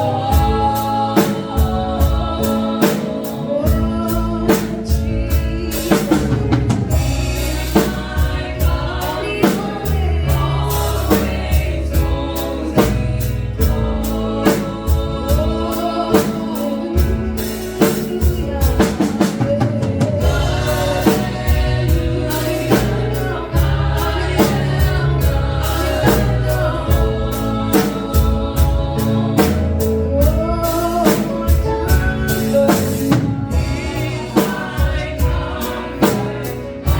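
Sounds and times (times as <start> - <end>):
bass line: 0.0 - 36.9
drum kit beat: 0.0 - 36.9
voices singing together: 0.0 - 36.9.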